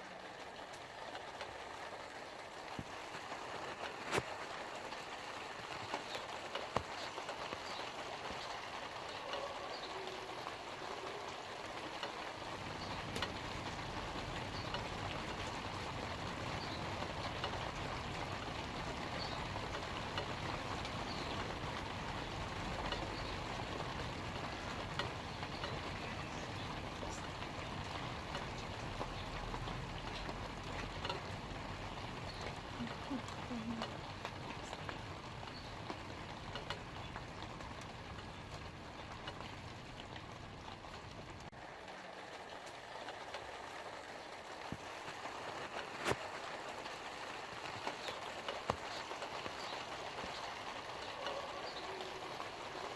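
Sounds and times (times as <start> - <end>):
light rain on leaves: 0.0 - 52.9.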